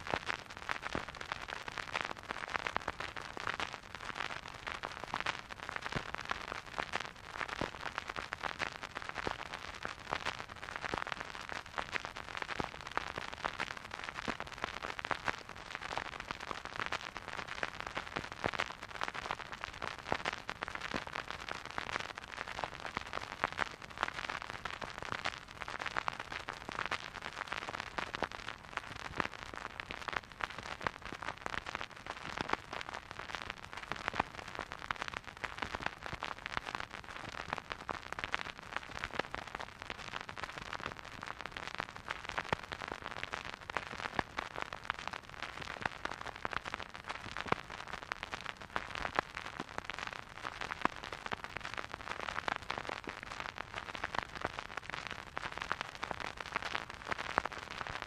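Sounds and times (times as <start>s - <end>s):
vinyl record crackles and hiss: 0.0s - 58.0s.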